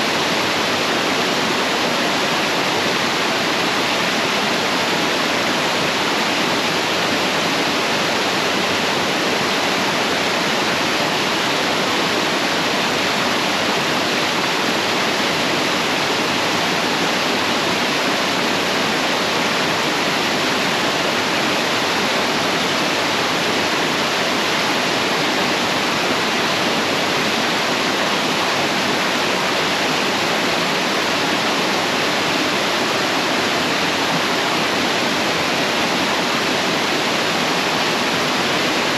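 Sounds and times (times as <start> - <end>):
waterfall splashing over rocks: 0.0 - 38.9.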